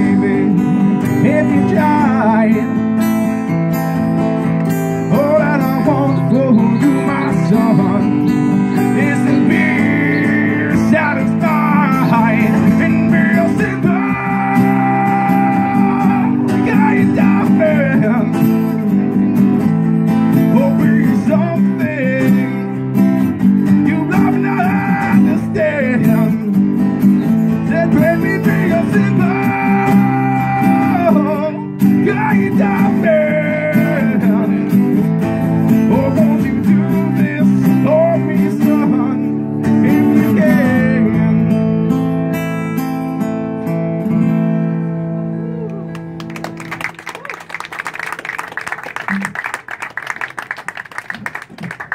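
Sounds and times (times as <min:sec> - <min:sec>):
acoustic guitar strumming chords: 0:00.0 - 0:46.2
sliding guitar melody: 0:00.0 - 0:47.0
amplified guitar: 0:00.0 - 0:50.4.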